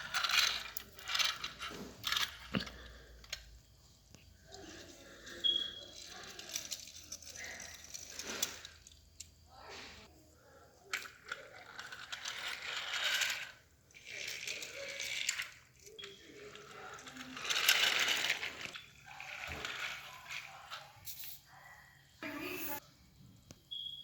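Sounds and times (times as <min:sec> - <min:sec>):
toy motor whirring and rattling: 0:00.0 - 0:03.5, 0:04.4 - 0:09.6, 0:10.8 - 0:21.4.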